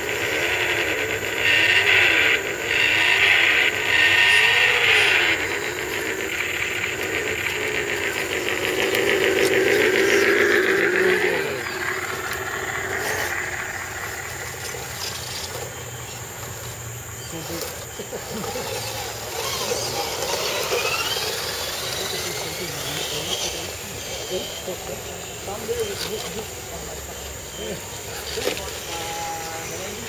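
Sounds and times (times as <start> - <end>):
rc truck motors whining: 0.0 - 30.0.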